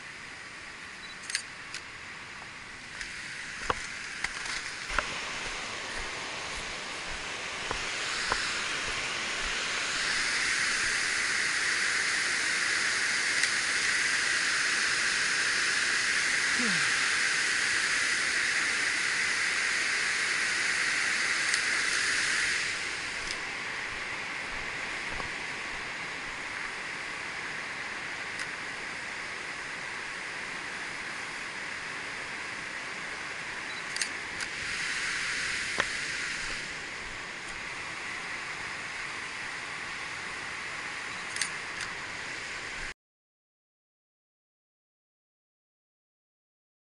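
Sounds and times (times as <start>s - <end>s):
water rushing over weir: 2.8s - 42.9s.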